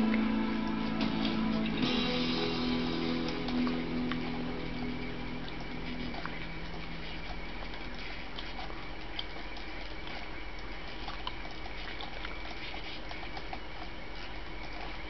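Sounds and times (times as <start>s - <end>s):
faint crackles: 0.0s - 15.0s
low electrical hum: 0.0s - 15.0s
static hiss: 0.0s - 15.0s.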